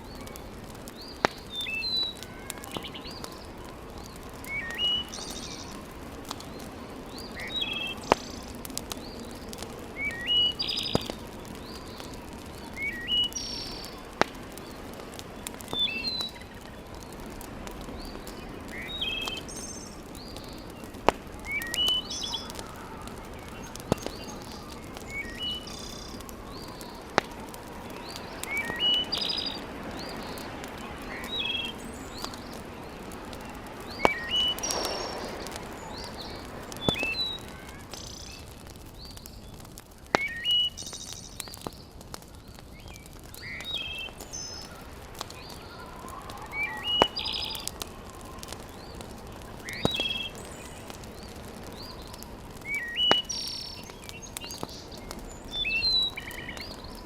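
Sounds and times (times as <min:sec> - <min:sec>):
birds chirping: 0:00.0 - 0:57.0
wood fire crackling: 0:00.0 - 0:57.0.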